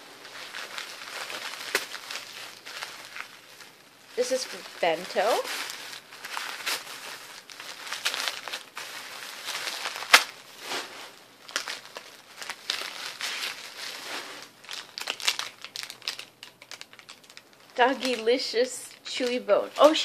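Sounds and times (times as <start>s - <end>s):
plastic wrapper crinkling: 0.0s - 20.0s
tissue paper crinkling: 0.0s - 20.0s.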